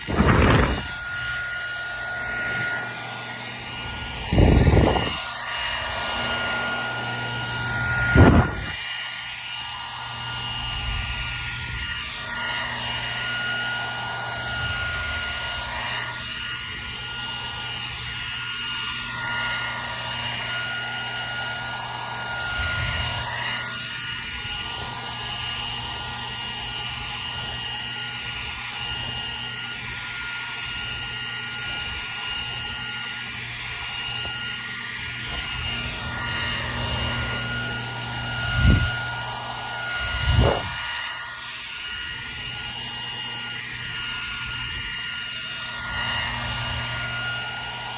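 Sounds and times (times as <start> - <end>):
hair dryer running: 0.0 - 47.9.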